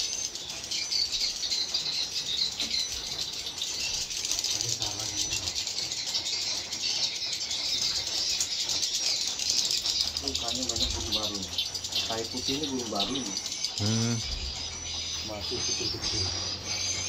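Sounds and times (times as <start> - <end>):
swiftlets twittering: 0.0 - 17.0.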